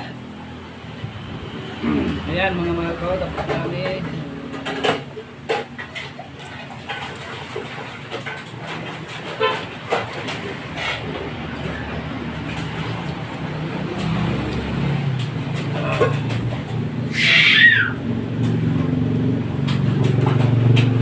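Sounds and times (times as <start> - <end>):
low mechanical rumble: 0.0 - 6.5, 9.3 - 21.0.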